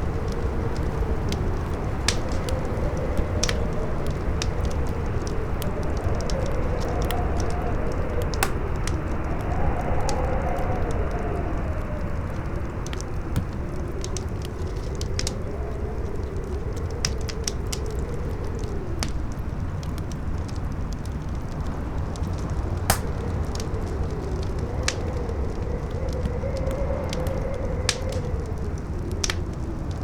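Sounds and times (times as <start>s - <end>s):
campfire crackling and popping: 0.0s - 30.0s
strong wind howling: 0.0s - 30.0s.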